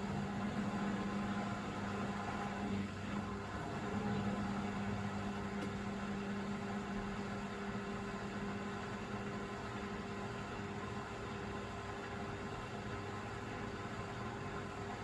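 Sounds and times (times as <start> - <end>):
drain pump and motor hum: 0.0 - 15.0.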